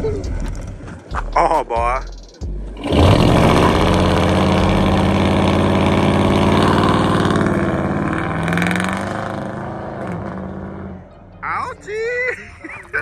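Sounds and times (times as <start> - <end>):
truck engine and exhaust: 0.0 - 13.0.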